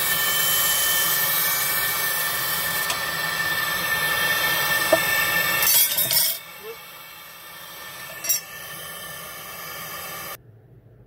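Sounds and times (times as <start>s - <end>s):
laser engraving machine whining: 0.0s - 10.4s.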